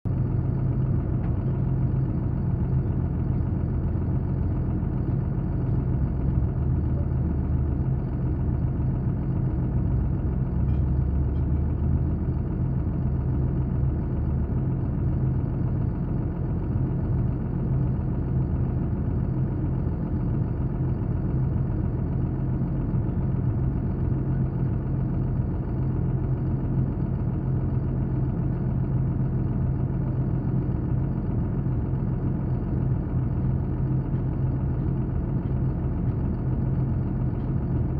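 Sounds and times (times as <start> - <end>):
engine idling: 0.1 - 37.9.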